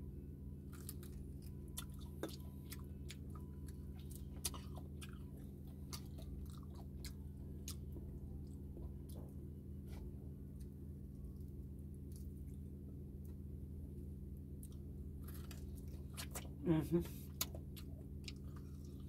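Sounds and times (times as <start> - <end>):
crunchy chewing and biting: 0.6 - 13.4, 14.4 - 19.0.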